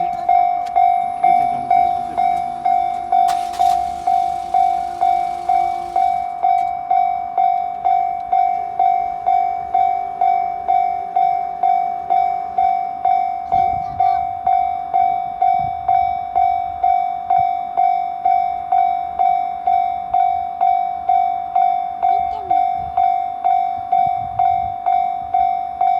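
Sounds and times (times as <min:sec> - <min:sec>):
level crossing warning bell: 0:00.0 - 0:25.9.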